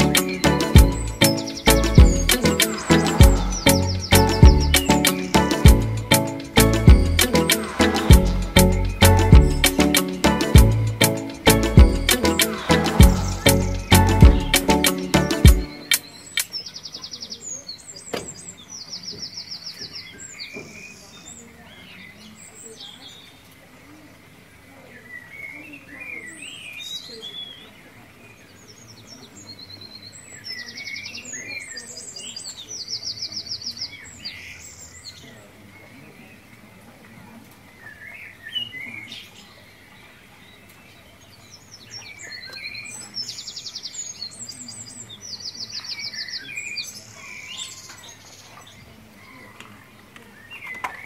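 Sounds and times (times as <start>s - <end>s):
songbirds chirping and trilling: 0.0s - 51.0s.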